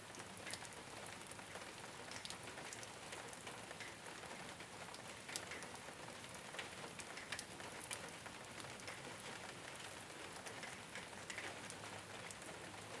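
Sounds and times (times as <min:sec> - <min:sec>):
rain pattering on a roof: 0:00.0 - 0:13.0.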